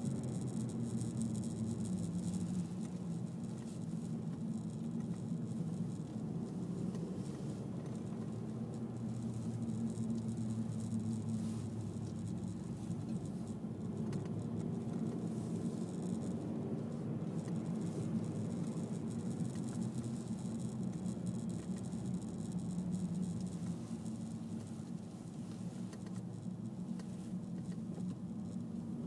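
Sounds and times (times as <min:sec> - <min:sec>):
car cabin engine and tyre hum: 0:00.0 - 0:29.0
light ticks and rattles: 0:00.0 - 0:29.0.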